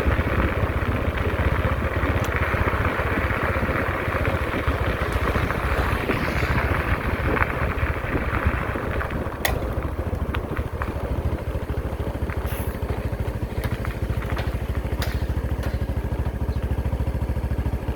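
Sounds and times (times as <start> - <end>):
sharp clicks and clatters: 0.0 - 17.8
diesel engine running: 0.0 - 17.9.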